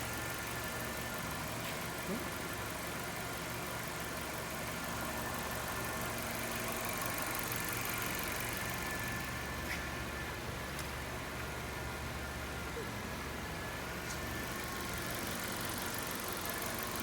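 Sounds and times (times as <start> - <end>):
small car engine idling: 0.0 - 17.0.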